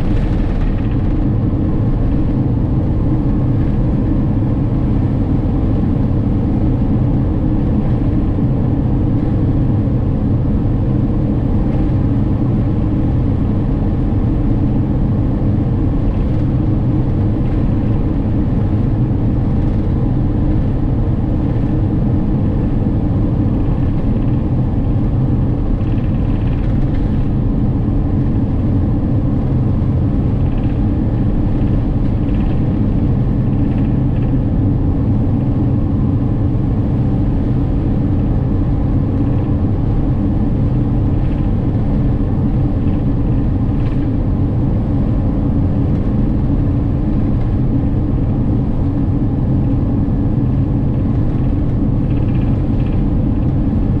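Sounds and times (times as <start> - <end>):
van cruising heard from inside: 0.0 - 54.0.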